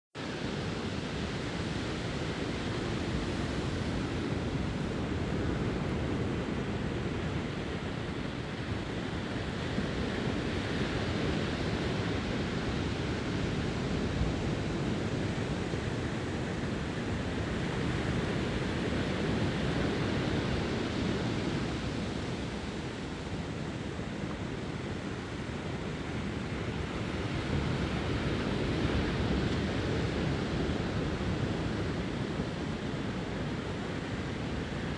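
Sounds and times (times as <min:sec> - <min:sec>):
ocean surf breaking on beach: 0:00.2 - 0:34.9.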